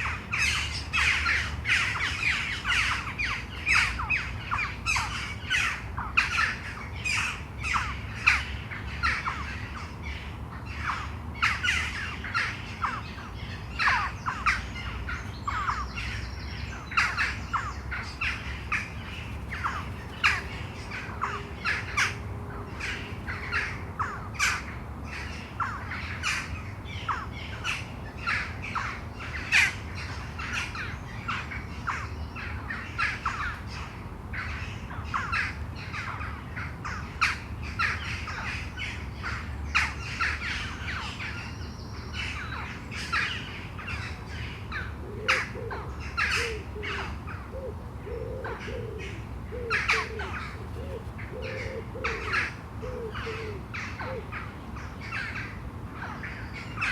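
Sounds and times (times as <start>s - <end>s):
birds calling harshly: 0.0s - 56.9s.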